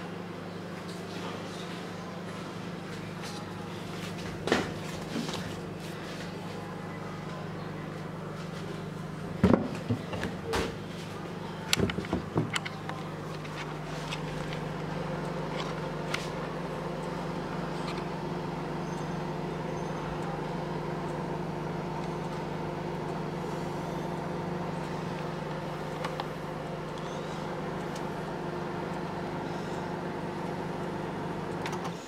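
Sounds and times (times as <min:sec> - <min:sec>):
microwave oven humming: 0:00.0 - 0:32.0.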